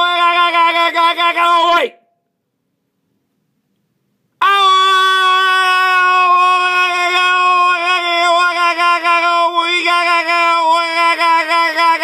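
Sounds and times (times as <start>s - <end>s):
man yelling on high note: 0.0s - 2.0s, 4.4s - 12.0s.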